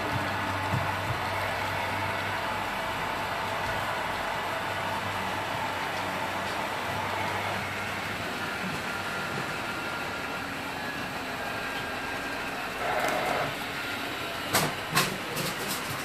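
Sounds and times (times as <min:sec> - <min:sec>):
model train rumbling hum: 0:00.0 - 0:16.0
room noise: 0:00.0 - 0:16.0.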